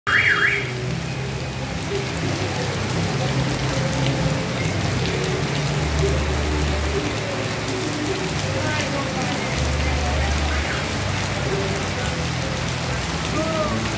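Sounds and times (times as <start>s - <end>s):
heavy rain on pavement: 0.1s - 13.9s.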